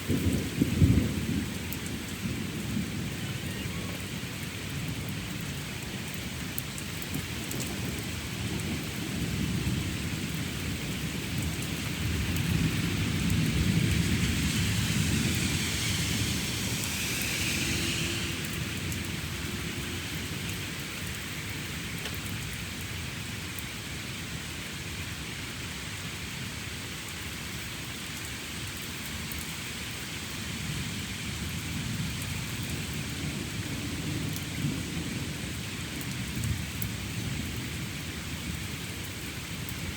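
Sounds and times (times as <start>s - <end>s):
low rumble of thunder: 0.0s - 22.9s, 30.5s - 39.9s
steady rain: 0.0s - 39.9s.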